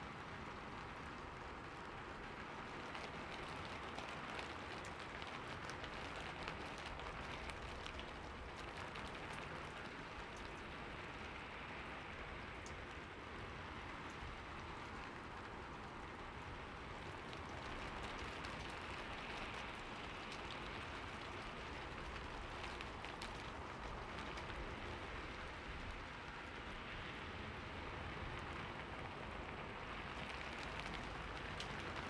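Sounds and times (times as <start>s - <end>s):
steady rainfall: 0.0s - 32.0s
raindrops ticking: 1.6s - 13.1s, 14.0s - 26.2s, 28.3s - 32.0s.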